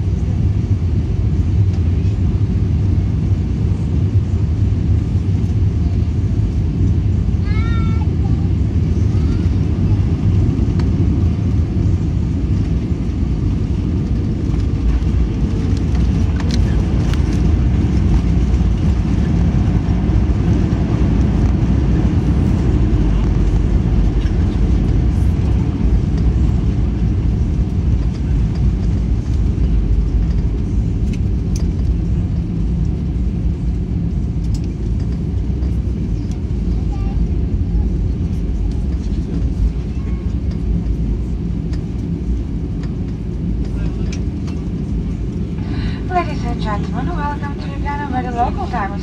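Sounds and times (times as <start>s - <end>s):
low rumble of engines and tyres: 0.0s - 49.0s.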